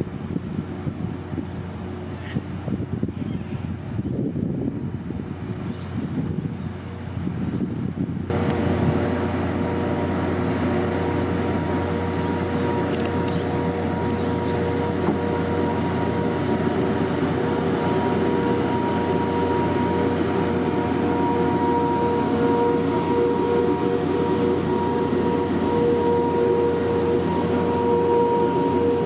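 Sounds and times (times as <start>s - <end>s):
steady humming tones: 0.0s - 29.0s
train rumbling: 0.0s - 29.0s.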